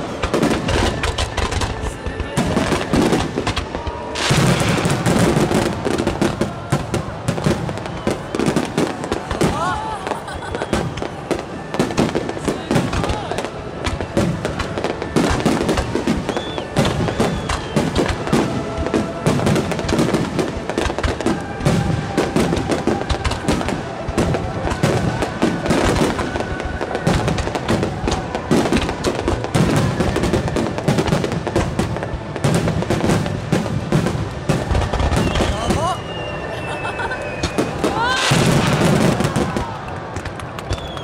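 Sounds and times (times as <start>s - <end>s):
fireworks banging: 0.0s - 41.0s.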